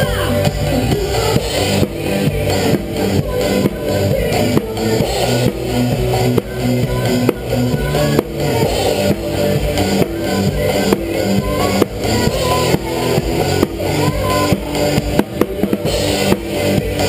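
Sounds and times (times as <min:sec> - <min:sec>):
bass notes: 0:00.0 - 0:17.0
drum kit beat: 0:00.0 - 0:17.0
live pop-rock band: 0:00.0 - 0:17.0.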